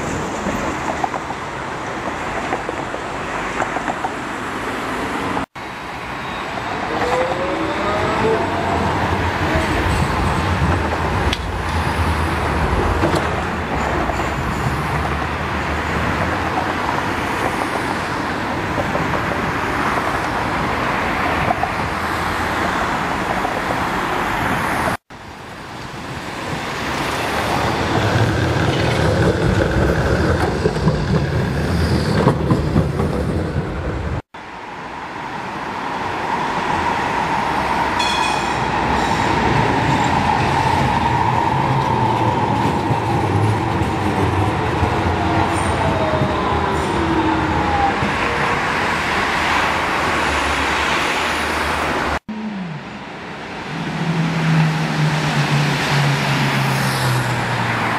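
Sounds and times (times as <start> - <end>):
road traffic: 0.0 - 57.9
trams running on rails: 0.0 - 57.9.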